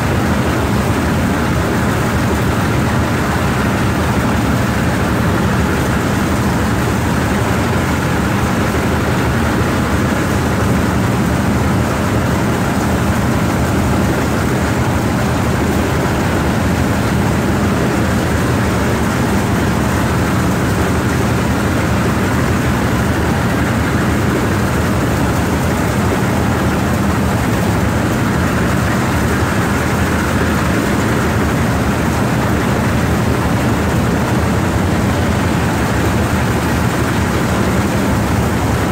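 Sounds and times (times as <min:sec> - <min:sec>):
rice thresher machine drone: 0:00.0 - 0:38.9.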